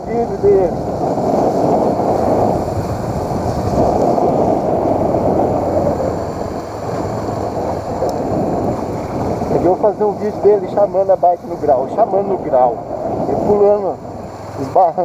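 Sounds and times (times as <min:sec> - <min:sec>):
motorcycle engine running: 0:00.0 - 0:15.0
wind rushing on microphone: 0:00.0 - 0:15.0.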